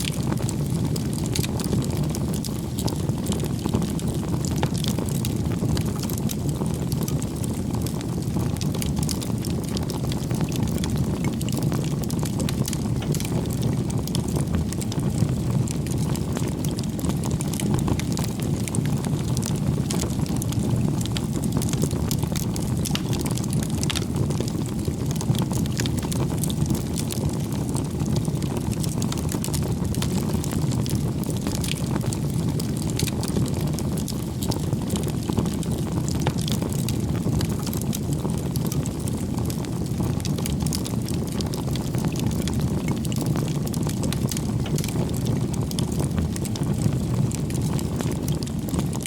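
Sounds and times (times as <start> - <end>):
bonfire flames rumbling: 0.0 - 49.0
fire crackling and popping: 0.0 - 49.0.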